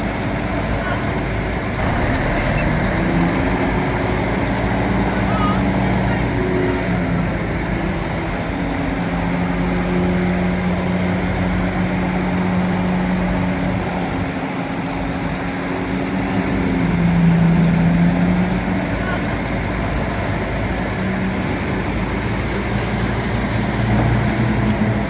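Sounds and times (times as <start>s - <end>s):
bulldozer engine running: 0.0s - 25.0s.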